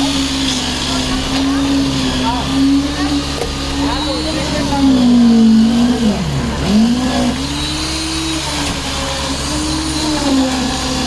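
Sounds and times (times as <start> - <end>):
machine motor humming and whining: 0.0 - 11.0.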